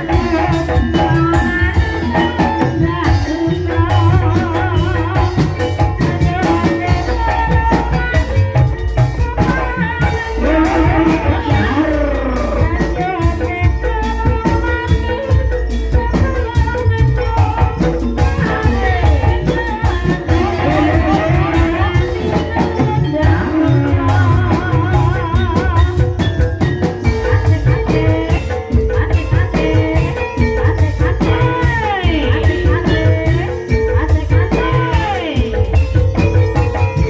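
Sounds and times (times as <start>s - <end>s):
drums and pitched percussion: 0.0s - 37.0s
person singing with vibrato: 0.0s - 37.0s.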